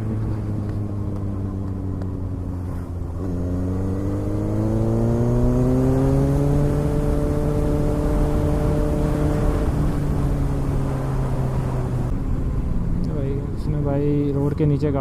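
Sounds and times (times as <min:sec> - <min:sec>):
motorcycle engine accelerating: 0:00.0 - 0:12.1.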